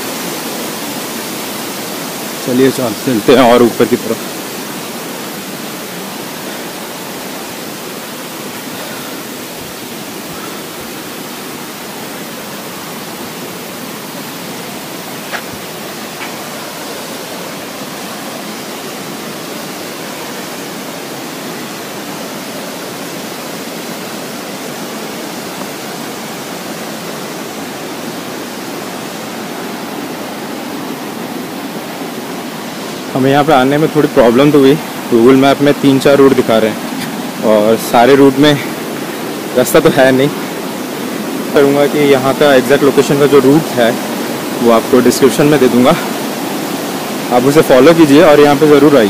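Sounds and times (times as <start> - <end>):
waterfall rushing over rock: 0.0 - 49.0.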